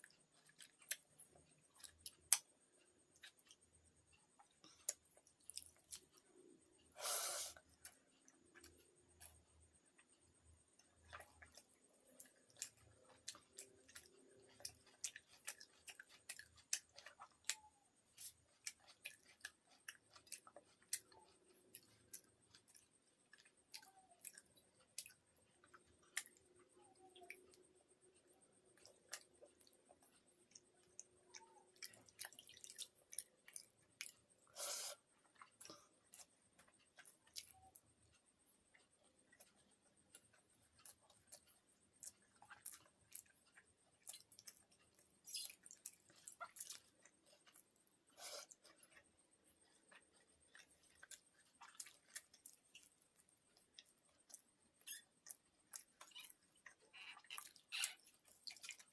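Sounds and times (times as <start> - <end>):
person chewing with mouth smacks: 0.0 - 58.9.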